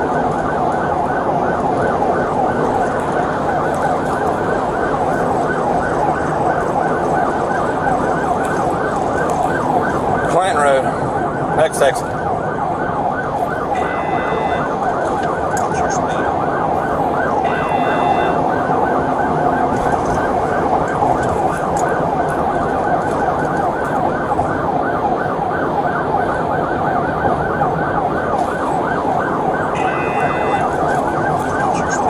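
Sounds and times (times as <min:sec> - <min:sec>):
high steady siren tone: 0:00.0 - 0:32.0
police siren yelping: 0:00.0 - 0:32.0.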